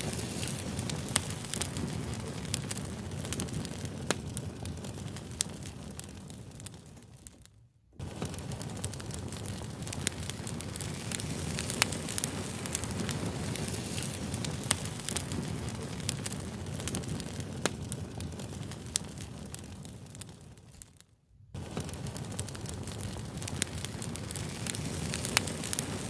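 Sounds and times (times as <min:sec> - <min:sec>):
crackling wood fire: 0:00.0 - 0:26.0.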